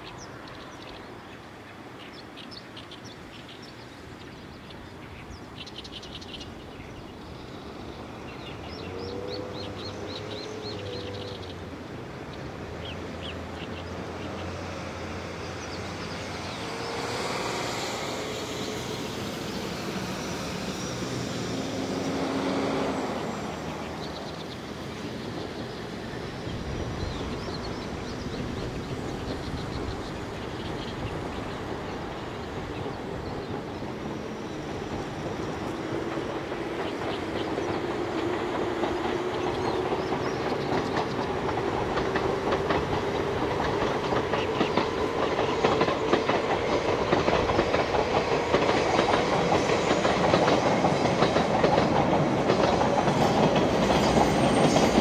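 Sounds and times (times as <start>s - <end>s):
birds chirping: 0.0s - 55.0s
distant train rumble: 0.0s - 55.0s.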